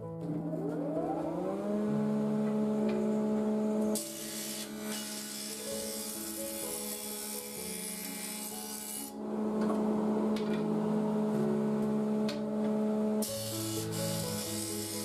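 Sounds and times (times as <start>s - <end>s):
background music: 0.0s - 15.0s
planer cutting wood: 0.3s - 15.0s.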